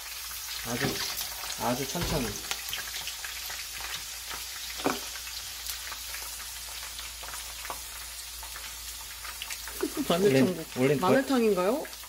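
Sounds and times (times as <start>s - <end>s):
garlic sizzling in oil: 0.0s - 12.0s.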